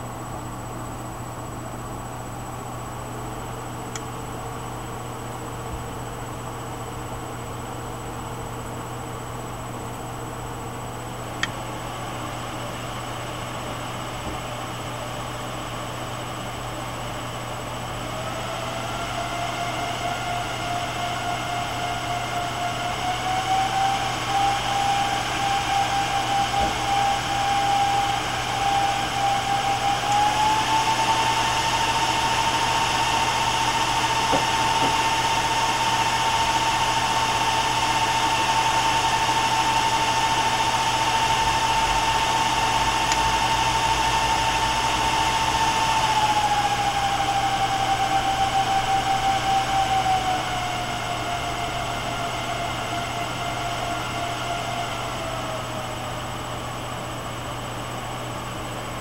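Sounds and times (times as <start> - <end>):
cooling fans whirring: 0.0 - 59.0.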